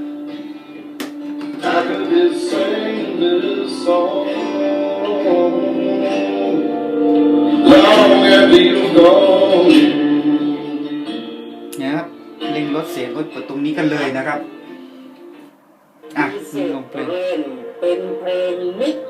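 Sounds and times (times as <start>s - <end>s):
song with singing over loudspeaker: 0.0s - 12.8s, 16.0s - 19.0s.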